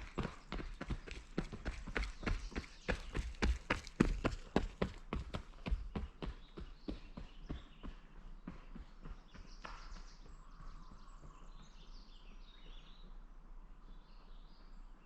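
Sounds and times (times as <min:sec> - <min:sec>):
running footsteps: 0:00.0 - 0:12.3
faint birdsong: 0:00.0 - 0:15.0.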